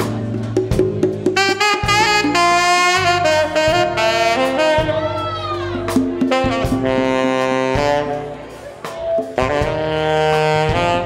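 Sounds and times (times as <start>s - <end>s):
rock band playing: 0.0s - 11.0s
tenor saxophone solo: 1.3s - 11.0s.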